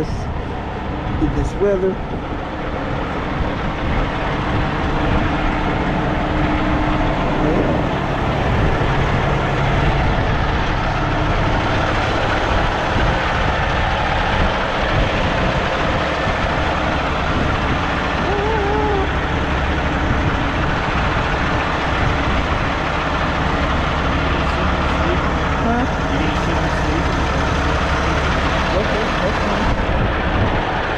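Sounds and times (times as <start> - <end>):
truck diesel engine idling: 0.0 - 30.9
loud rushing noise: 2.0 - 30.9.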